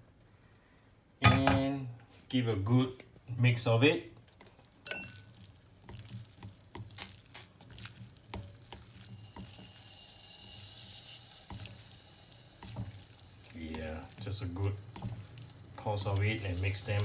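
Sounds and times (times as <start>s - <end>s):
steady soft hiss: 0.0s - 6.0s, 7.0s - 17.0s
wet noodles stirring: 3.1s - 17.0s.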